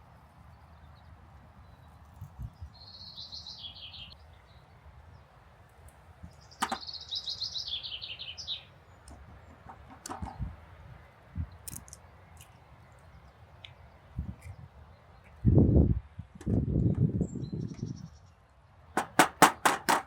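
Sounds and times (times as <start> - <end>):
songbird singing: 0.1 - 19.2.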